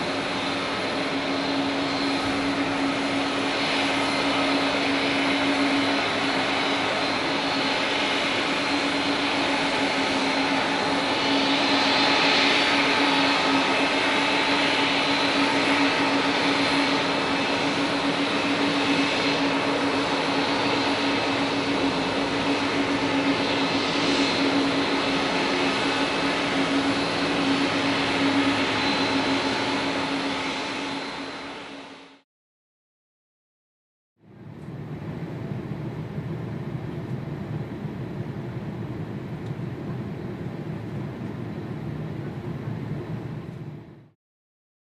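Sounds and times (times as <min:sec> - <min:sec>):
jet engines whining and roaring: 0:00.0 - 0:32.2, 0:34.2 - 0:44.2.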